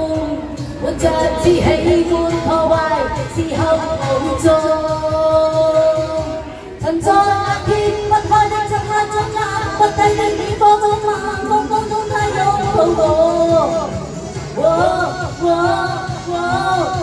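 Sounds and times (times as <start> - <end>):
amplified backing music with beat: 0.0 - 17.0
woman singing through microphone: 0.0 - 17.0.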